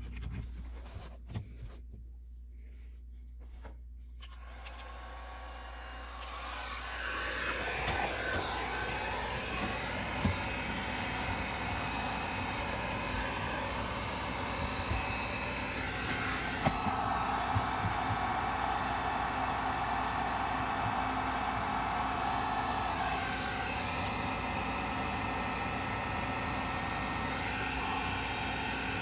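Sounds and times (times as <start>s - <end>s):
heat gun blowing air: 4.2s - 29.0s.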